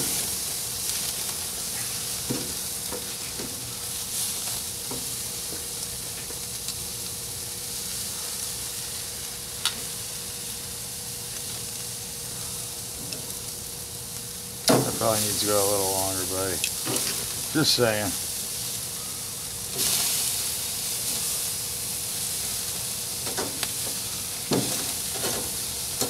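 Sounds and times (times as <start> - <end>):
food sizzling on a grill: 0.0 - 26.0.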